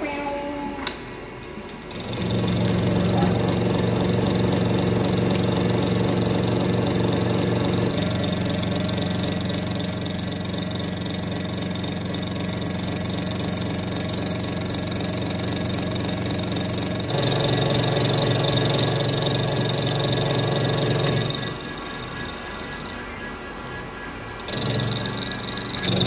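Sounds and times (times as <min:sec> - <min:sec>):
metal lathe cutting steel: 0:01.9 - 0:23.1, 0:24.3 - 0:26.0.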